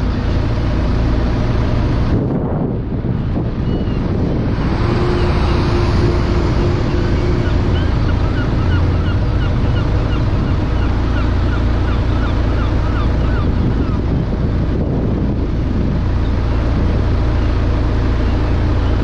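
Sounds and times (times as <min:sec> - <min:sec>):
car road and engine rumble: 0:00.0 - 0:19.0
wind buffeting microphone: 0:00.0 - 0:19.0.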